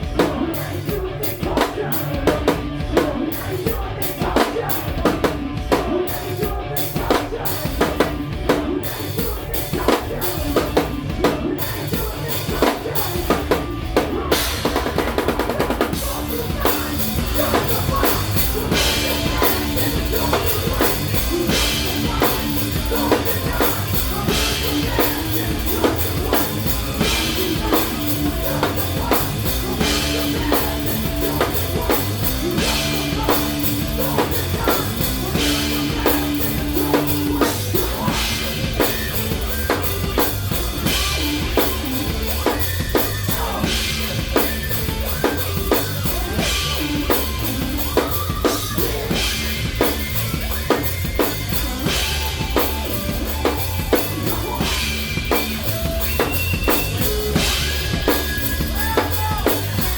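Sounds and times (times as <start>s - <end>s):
bass drum and snare beat: 0.0s - 59.9s
live rock band playing: 0.0s - 59.9s
sustained guitar and bass notes: 0.0s - 59.9s.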